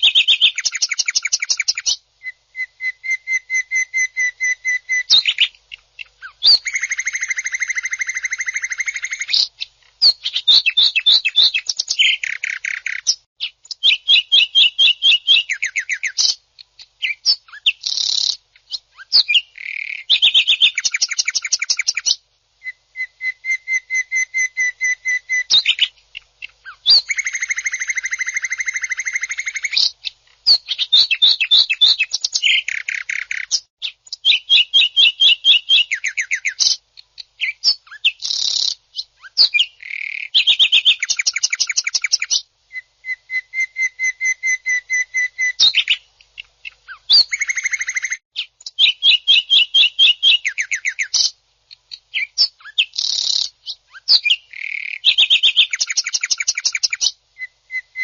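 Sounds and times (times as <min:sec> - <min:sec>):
bird singing harsh fast phrases: 0:00.0 - 0:58.0.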